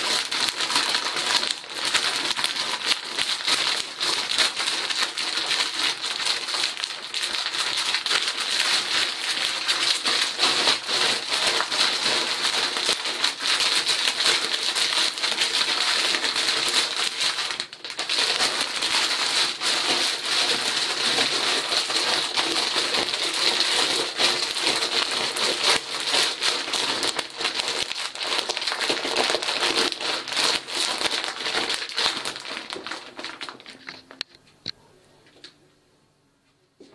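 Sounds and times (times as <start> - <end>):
grain crackling: 0.0 - 34.2
plastic bag crinkling: 0.0 - 34.4.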